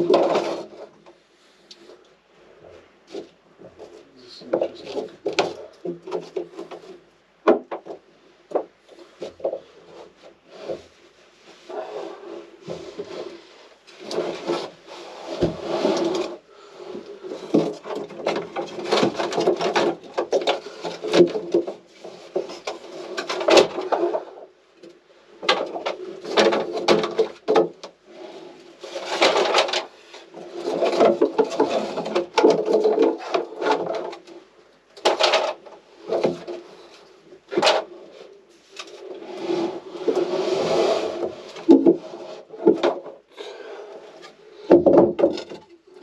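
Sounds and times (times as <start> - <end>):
wood scraping and rubbing: 0.0 - 46.0.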